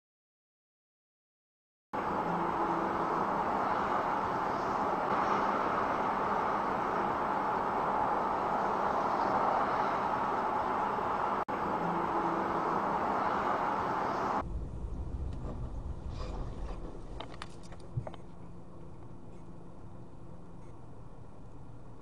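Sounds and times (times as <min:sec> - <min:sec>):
low cabin rumble: 0:02.0 - 0:22.0
traffic and engine noise: 0:02.0 - 0:22.0.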